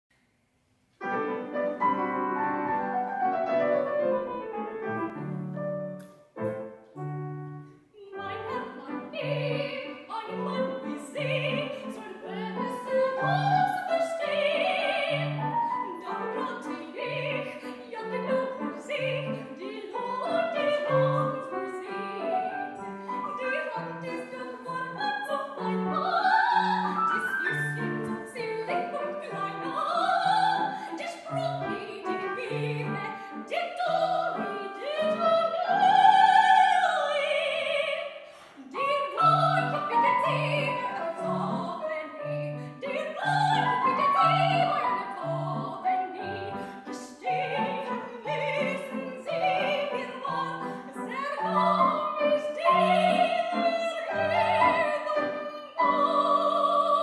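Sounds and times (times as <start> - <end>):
grand piano accompaniment: 1.0 - 57.0
soprano singing with vibrato: 8.0 - 57.0.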